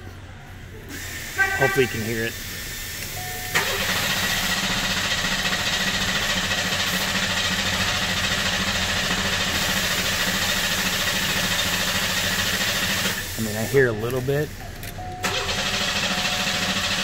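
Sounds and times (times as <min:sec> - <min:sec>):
car engine cranking without firing: 0:03.0 - 0:17.0.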